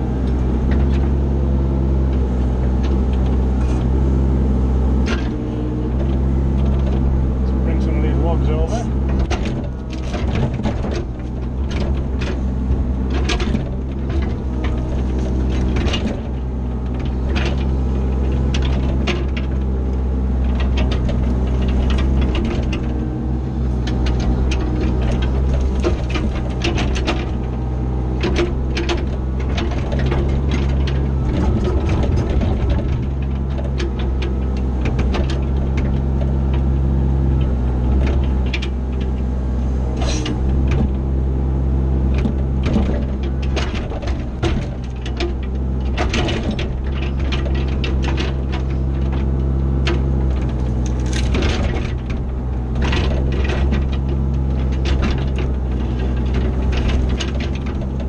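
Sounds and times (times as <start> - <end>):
excavator clanks and knocks: 0.0 - 58.0
excavator diesel engine running: 0.0 - 58.0.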